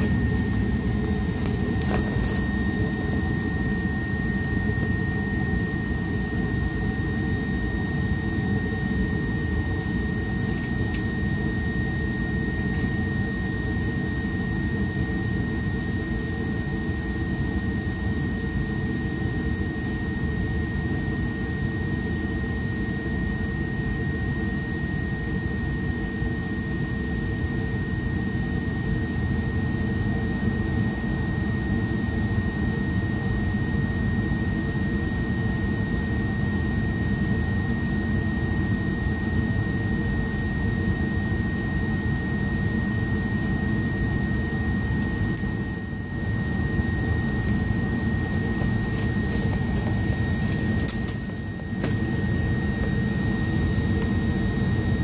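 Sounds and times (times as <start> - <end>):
furnace roaring with whine: 0.0 - 55.0.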